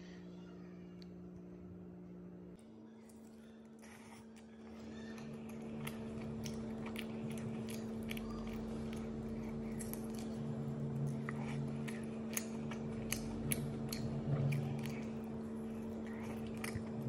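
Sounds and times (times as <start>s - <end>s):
steady low hum: 0.0s - 17.0s
chewing crunchy chicken: 2.9s - 17.0s.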